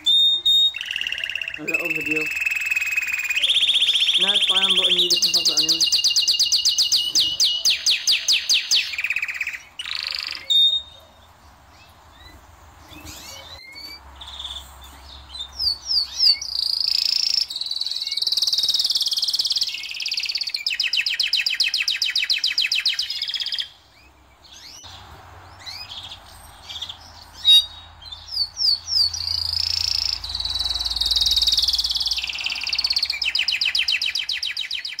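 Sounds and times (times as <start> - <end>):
canaries singing trills: 0.0 - 35.0.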